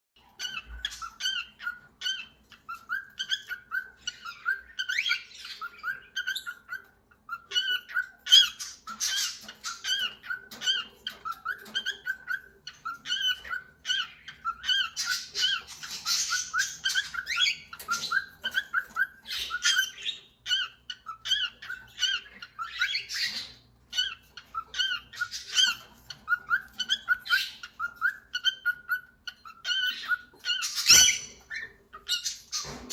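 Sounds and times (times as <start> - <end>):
cockatiel whistling a tune: 0.2 - 32.8.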